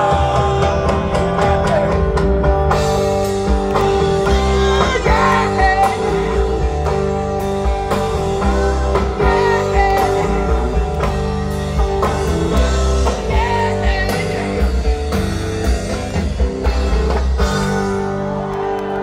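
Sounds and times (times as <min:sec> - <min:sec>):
electric guitar lead bending notes: 0:00.0 - 0:19.0
live rock band playing: 0:00.0 - 0:19.0.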